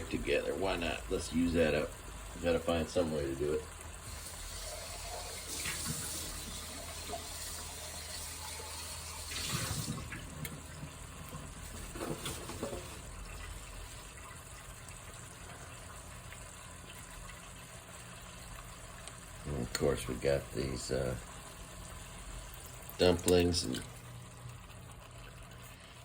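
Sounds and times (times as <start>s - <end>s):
gravy sizzling in a hot frying pan: 0.0s - 26.0s.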